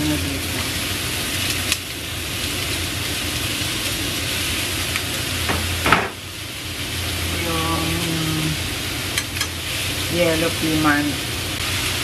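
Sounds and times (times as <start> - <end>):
fish sizzling in frying pan: 0.0 - 12.0.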